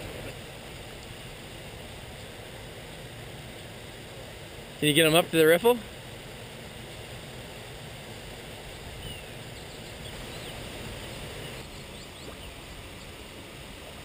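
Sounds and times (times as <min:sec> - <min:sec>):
creek water running over rocks: 0:00.0 - 0:14.0.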